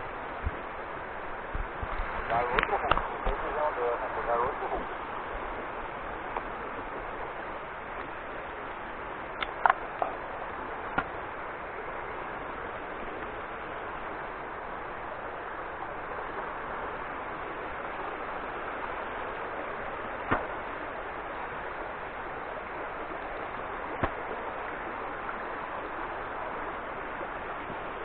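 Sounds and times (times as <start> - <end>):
stream running over rocks: 0.0 - 28.0.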